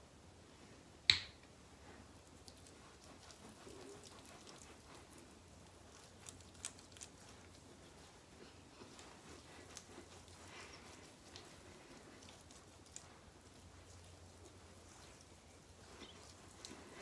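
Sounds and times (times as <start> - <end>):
hands rubbing facial scrub: 2.2 - 17.0.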